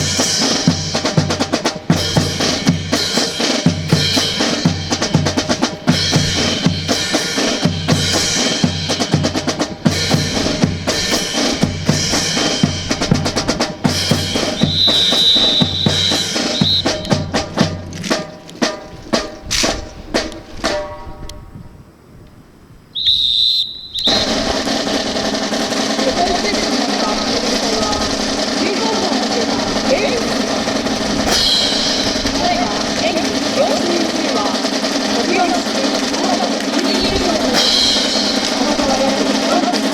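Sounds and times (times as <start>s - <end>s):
drum kit playing fast rhythm: 0.0s - 21.1s, 24.1s - 39.9s
steady noise: 0.0s - 39.9s.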